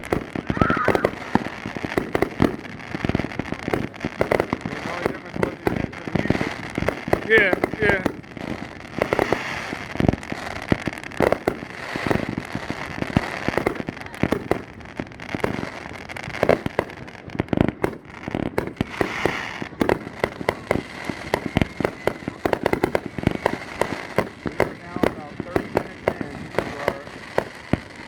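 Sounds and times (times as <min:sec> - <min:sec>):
fireworks bangs and pops: 0:00.0 - 0:28.0
fireworks crackle: 0:00.0 - 0:28.0.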